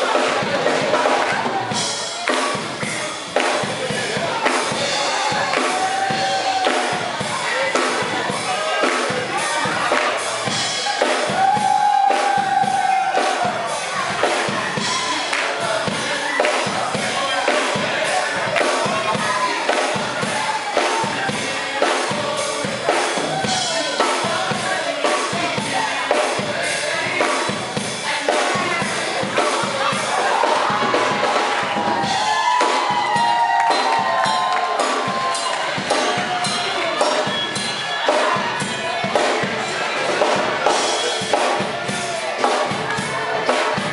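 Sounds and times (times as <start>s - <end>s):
drum kit beat: 0.0s - 43.9s
singing: 0.0s - 43.9s.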